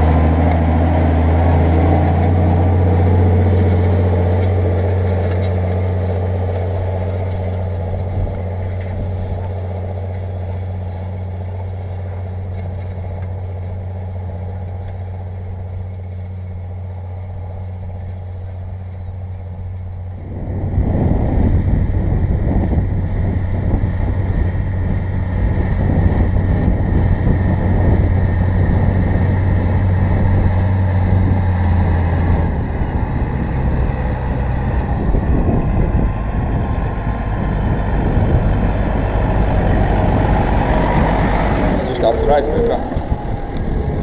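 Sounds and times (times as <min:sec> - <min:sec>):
tractor diesel engine droning: 0:00.0 - 0:44.0.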